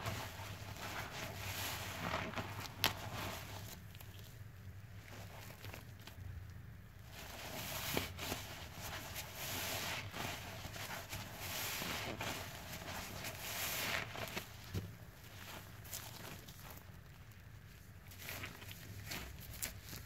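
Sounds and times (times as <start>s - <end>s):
sponge squelching in soapy water: 0.0s - 6.2s, 7.0s - 17.2s, 17.8s - 20.0s.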